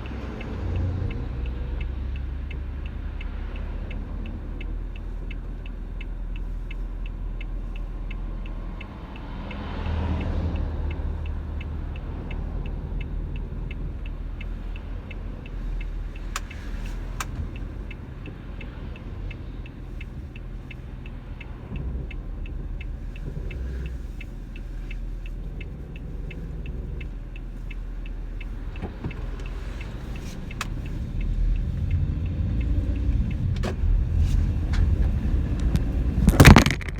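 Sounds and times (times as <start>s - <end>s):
light engine ticking: 0.0s - 34.1s
van engine rumbling: 0.0s - 36.9s.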